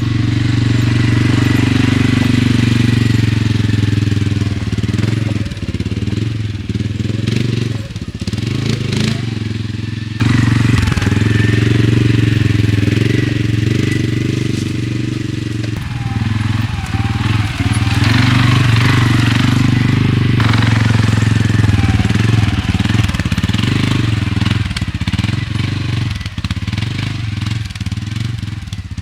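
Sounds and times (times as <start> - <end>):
atv engine droning: 0.0 - 29.0.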